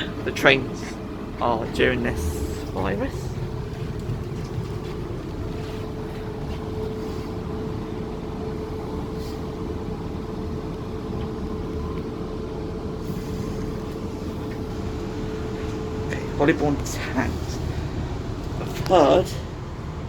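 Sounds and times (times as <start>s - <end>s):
constant mid-pitched hum: 0.0s - 20.0s
train wheels rumbling on track: 0.0s - 20.0s.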